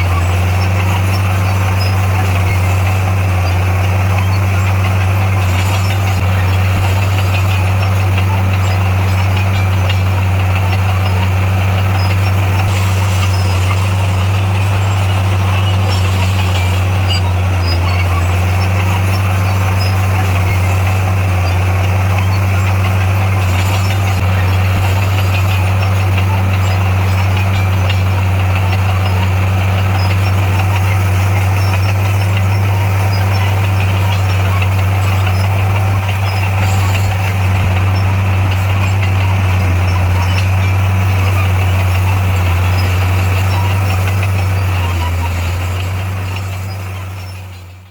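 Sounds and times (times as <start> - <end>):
diesel engine running steadily: 0.0 - 47.9.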